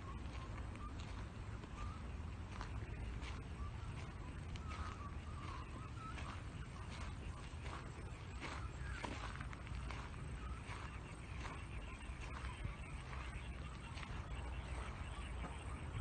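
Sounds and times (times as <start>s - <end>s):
birds warbling: 0.0s - 16.0s
footsteps: 0.0s - 16.0s
steady low rumble: 0.0s - 16.0s.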